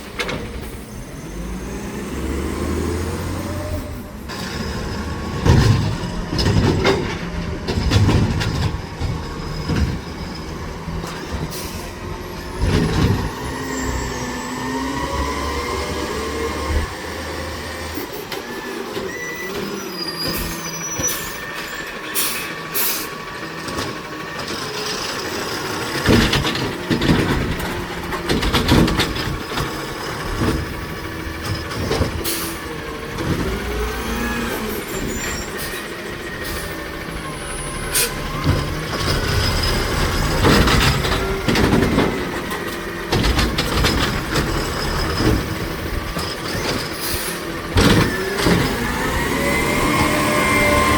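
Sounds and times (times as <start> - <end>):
garbage truck diesel engine: 0.0 - 50.9.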